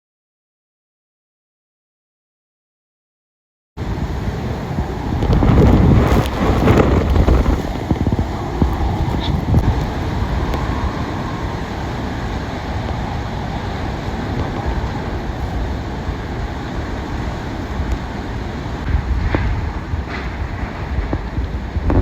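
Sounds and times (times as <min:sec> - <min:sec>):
hurricane winds blowing: 0:03.8 - 0:22.0
wind buffeting microphone: 0:03.8 - 0:22.0.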